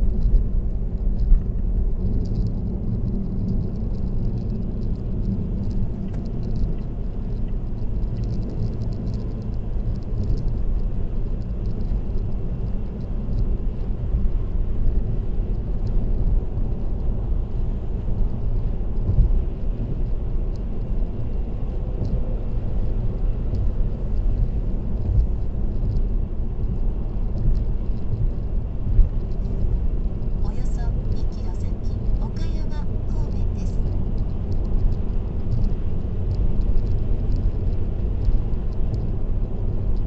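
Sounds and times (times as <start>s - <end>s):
road and tyre noise inside car: 0.0s - 40.0s.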